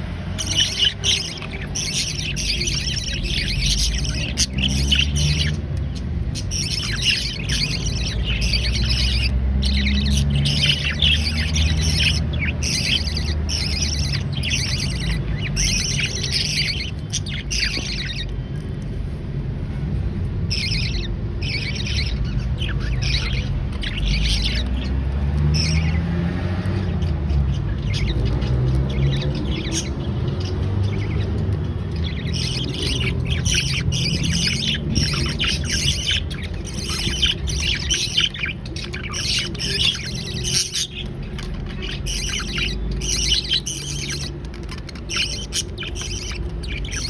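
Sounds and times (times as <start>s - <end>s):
budgie chicks chirping and squawking: 0.0s - 47.0s.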